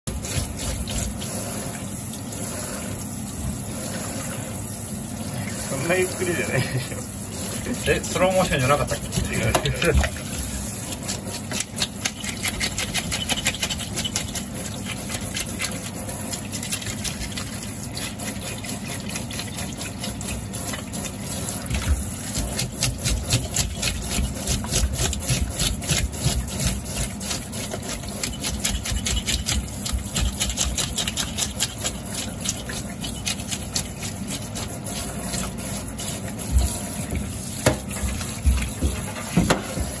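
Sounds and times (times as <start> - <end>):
tap water running into sink: 0.1 - 40.0
fish scales being scraped: 5.8 - 40.0.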